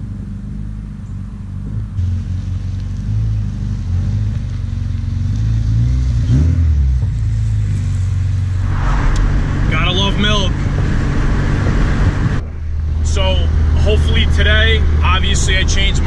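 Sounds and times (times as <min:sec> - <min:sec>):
car engine droning without muffler: 0:00.0 - 0:16.0.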